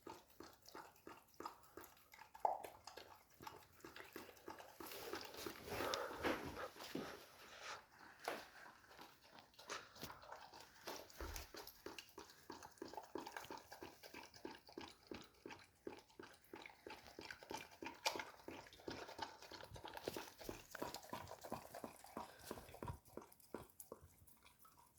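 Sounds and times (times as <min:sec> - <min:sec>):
dog eating: 0:00.0 - 0:24.9
wet mouth noises: 0:02.2 - 0:24.9.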